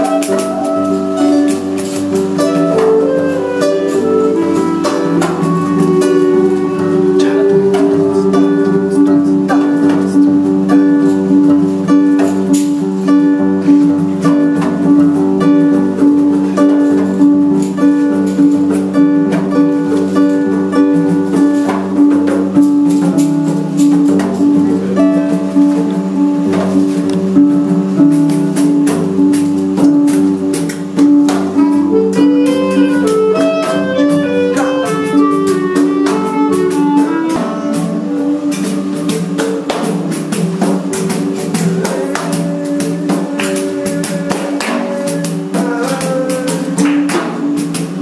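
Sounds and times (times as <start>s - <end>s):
strummed acoustic string music: 0.0s - 48.0s.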